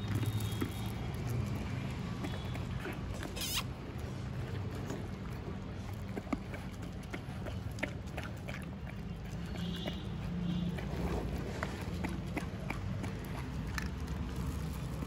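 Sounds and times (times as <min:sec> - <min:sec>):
dogs crunching dry kibble: 0:00.0 - 0:15.0.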